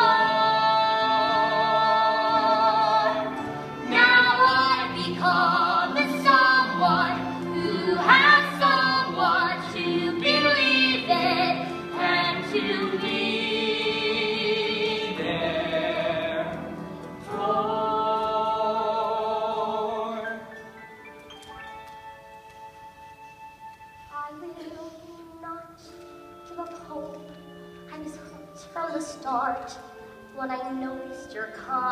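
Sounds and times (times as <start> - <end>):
backing accompaniment: 0.0 - 31.9.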